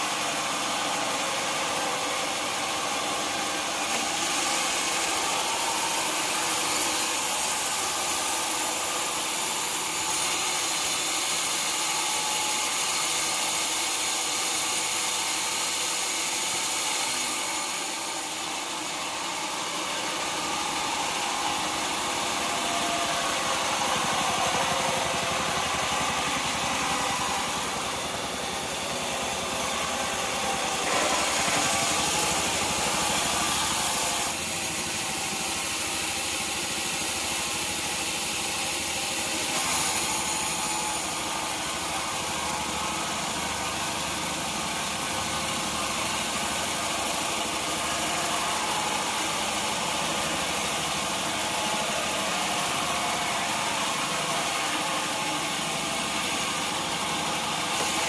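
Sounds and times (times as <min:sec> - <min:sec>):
sawmill machinery sawing: 0:00.0 - 0:58.0.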